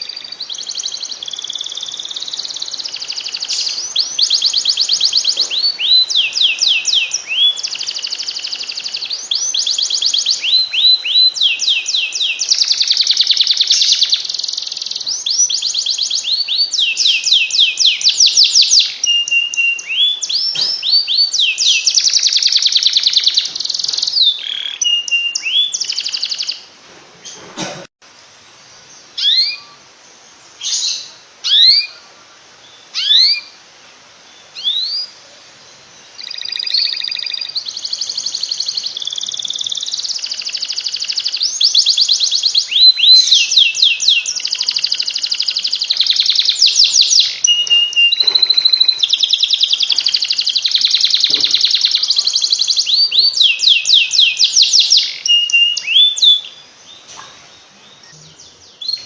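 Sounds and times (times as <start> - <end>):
canary singing: 0.0 - 27.4, 28.9 - 29.9, 30.5 - 33.6, 34.3 - 59.0.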